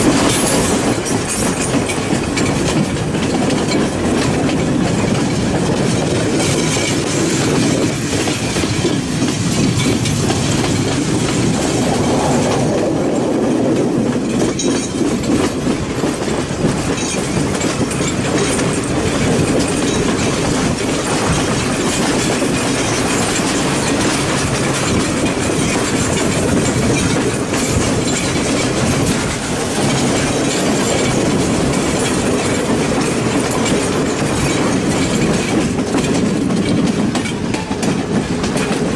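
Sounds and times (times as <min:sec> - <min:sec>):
passenger train running on track: 0:00.0 - 0:38.9.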